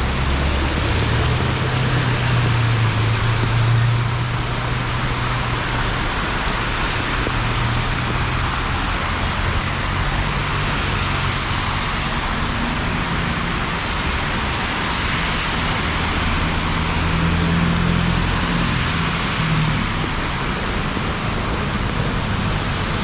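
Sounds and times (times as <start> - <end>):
heavy rain falling: 0.0 - 23.0
low hum of traffic: 0.0 - 23.0.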